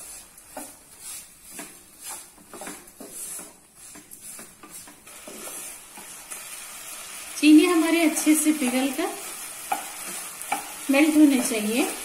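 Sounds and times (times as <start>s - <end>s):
spatula scraping pan: 0.0s - 7.1s, 7.7s - 12.0s.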